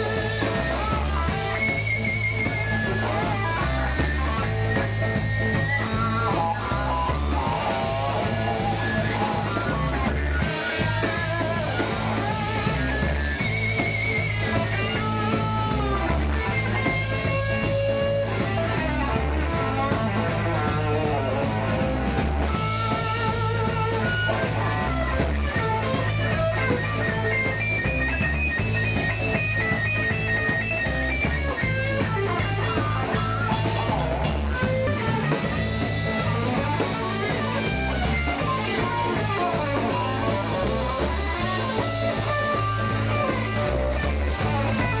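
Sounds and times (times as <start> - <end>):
drums: 0.0 - 45.0
electric guitars: 0.0 - 45.0
guitar line bending in pitch: 0.0 - 45.0
low bass notes: 0.0 - 45.0.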